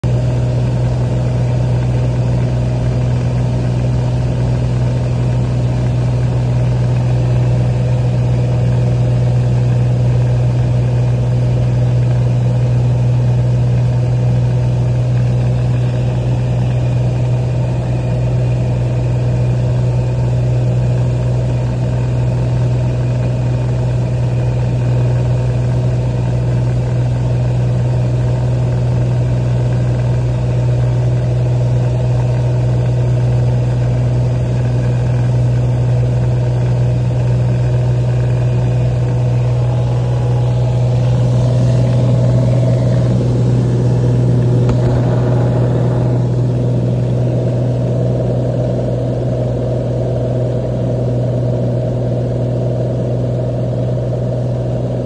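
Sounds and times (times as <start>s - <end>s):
airplane engine low hum: 0.0s - 55.0s.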